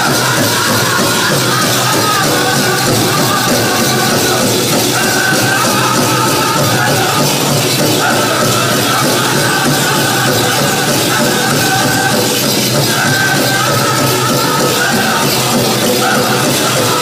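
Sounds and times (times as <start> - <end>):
big drum beaten steadily: 0.0 - 17.0
high wavering voices singing: 0.0 - 17.0.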